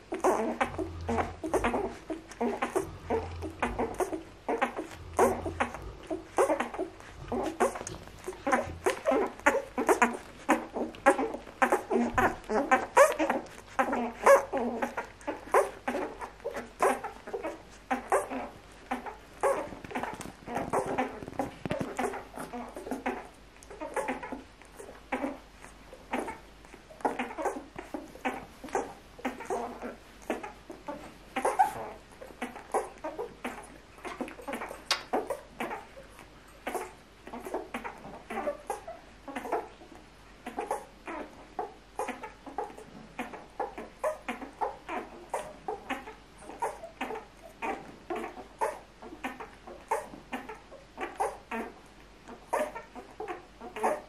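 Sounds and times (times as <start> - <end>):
puppies squeaking and whimpering: 0.0 - 54.0.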